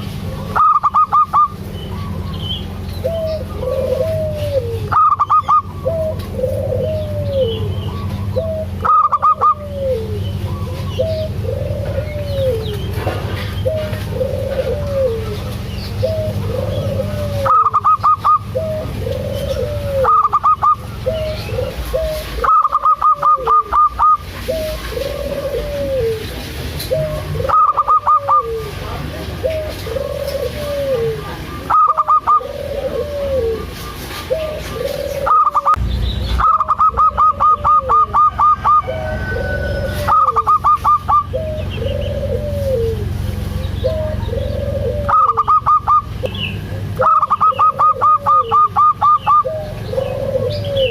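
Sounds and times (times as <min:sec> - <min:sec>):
dove cooing: 0:00.0 - 0:35.8, 0:36.4 - 0:50.9.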